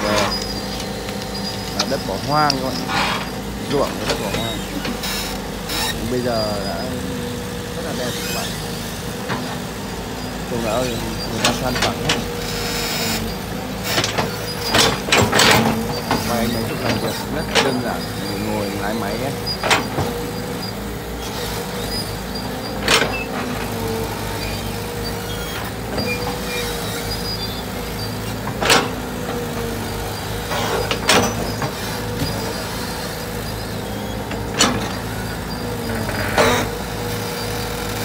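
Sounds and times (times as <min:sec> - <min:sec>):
excavator diesel engine whining: 0:00.0 - 0:38.0.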